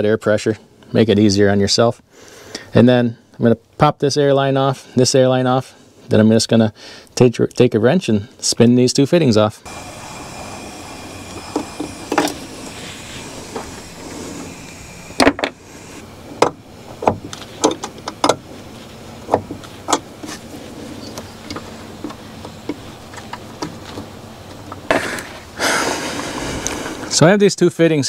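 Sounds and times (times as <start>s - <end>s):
steady low background noise: 0.0s - 28.0s.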